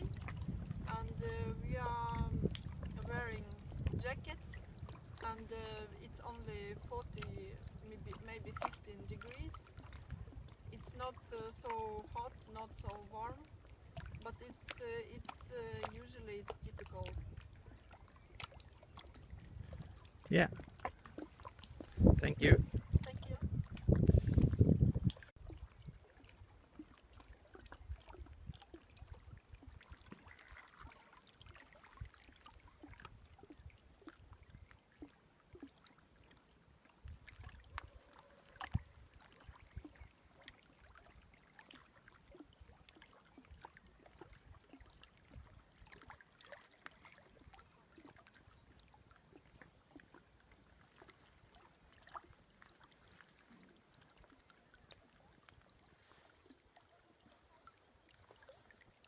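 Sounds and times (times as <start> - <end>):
water trickling: 0.0 - 59.0.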